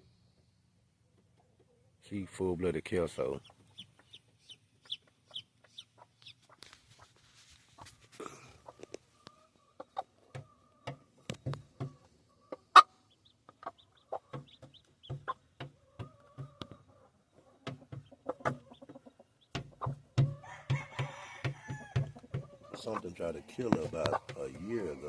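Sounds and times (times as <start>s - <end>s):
chickens clucking: 0.1s - 25.0s.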